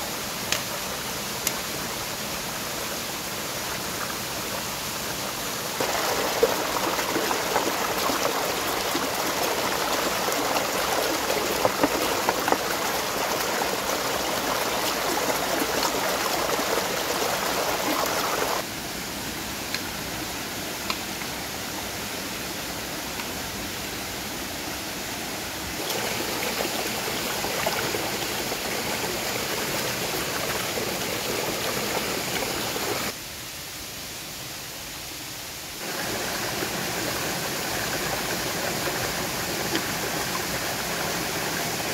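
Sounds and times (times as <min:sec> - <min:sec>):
stream water rushing: 0:00.0 - 0:18.8, 0:21.1 - 0:33.2, 0:35.3 - 0:41.9.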